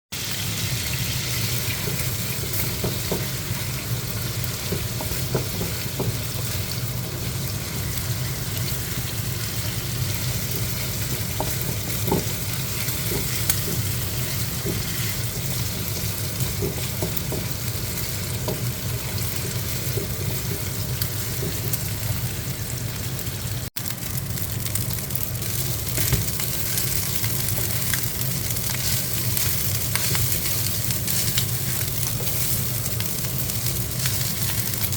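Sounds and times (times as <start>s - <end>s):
food sizzling in a pan: 0.1s - 34.9s.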